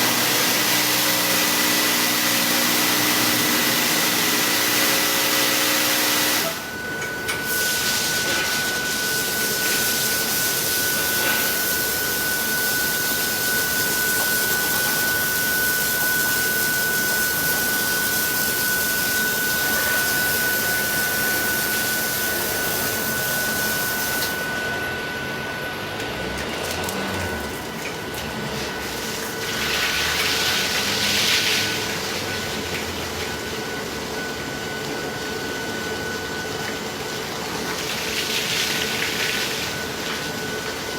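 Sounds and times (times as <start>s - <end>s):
machine hum with whine: 0.0s - 40.9s.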